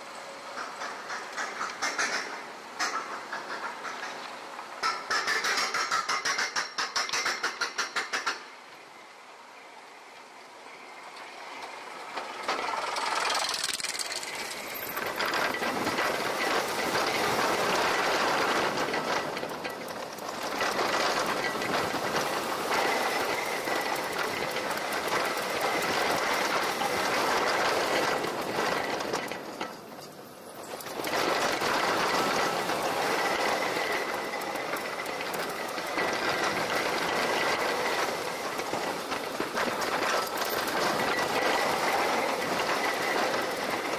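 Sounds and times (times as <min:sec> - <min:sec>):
roller coaster rushing and rattling: 0:04.6 - 0:08.5, 0:11.2 - 0:43.9.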